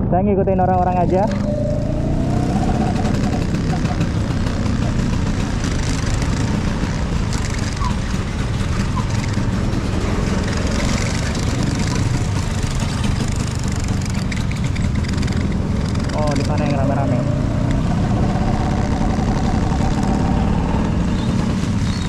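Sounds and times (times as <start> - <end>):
scooter engine running: 0.9 - 22.0.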